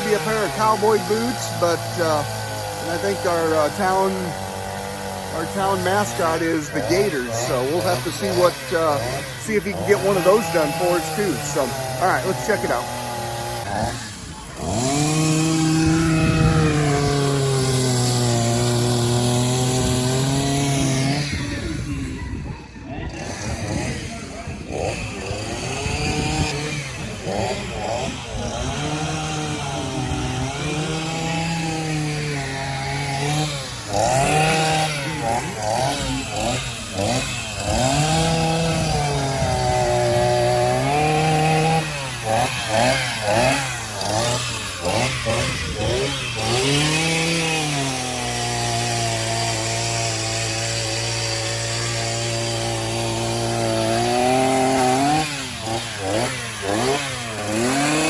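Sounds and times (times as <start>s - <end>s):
chainsaw revving cutting log: 0.0s - 58.0s.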